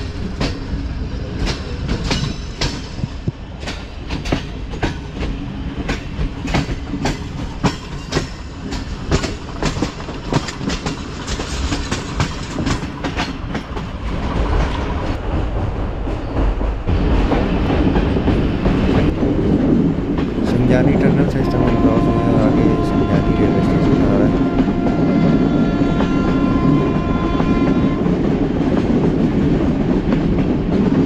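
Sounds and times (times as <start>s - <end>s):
train wheels clicking on rail joints: 0.0s - 31.0s.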